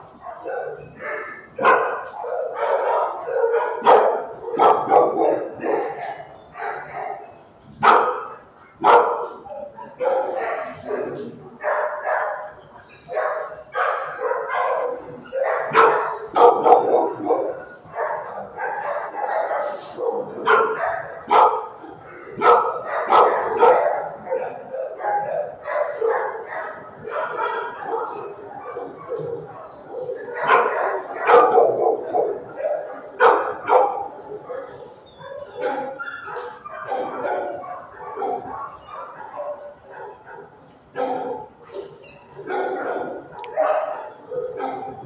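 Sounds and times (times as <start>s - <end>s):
dogs barking and yipping: 0.0s - 45.0s.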